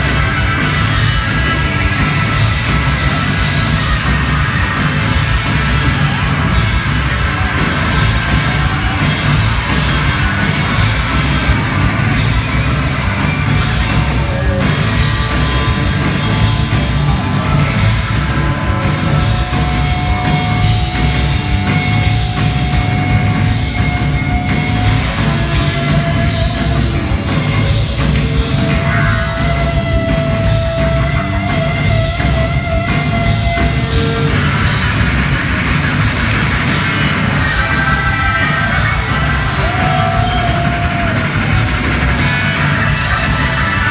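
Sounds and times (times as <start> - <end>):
rock band playing loud: 0.0 - 43.9.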